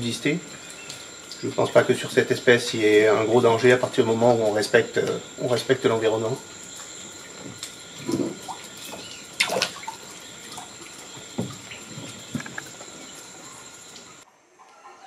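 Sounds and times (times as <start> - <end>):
water splashing in a plastic tub: 0.0 - 14.2
steady high whine: 0.0 - 14.5.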